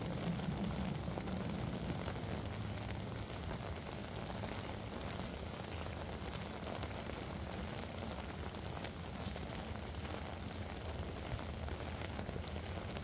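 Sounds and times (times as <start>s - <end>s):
city traffic rumble: 0.0s - 13.0s
rain pattering on an umbrella: 0.0s - 13.0s.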